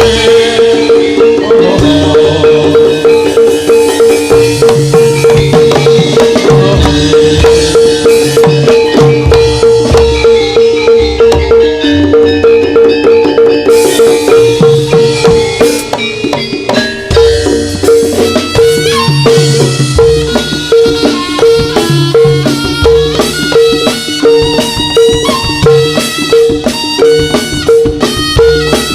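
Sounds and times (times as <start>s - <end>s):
drums: 0.0s - 28.9s
gamelan ensemble playing: 0.0s - 28.9s
mallet-struck metallophones: 0.0s - 28.9s.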